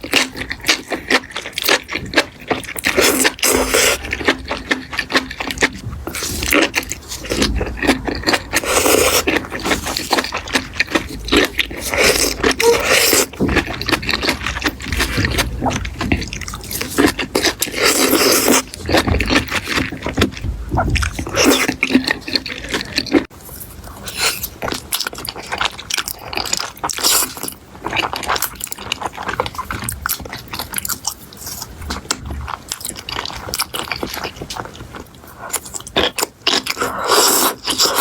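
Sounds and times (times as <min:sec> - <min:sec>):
person biting and chewing food: 0:00.0 - 0:38.0.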